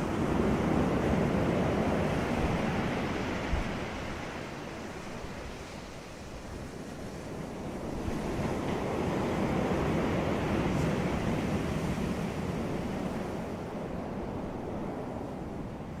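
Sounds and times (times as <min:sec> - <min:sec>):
sea waves washing on beach: 0:00.0 - 0:16.0.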